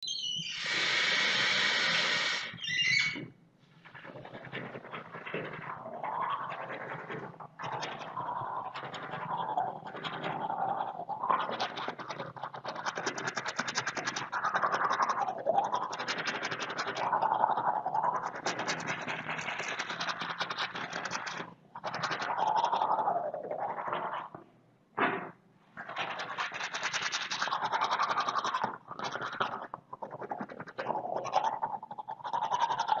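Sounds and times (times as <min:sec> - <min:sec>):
toothbrush scrubbing teeth: 0:03.8 - 0:24.4, 0:25.8 - 0:33.0.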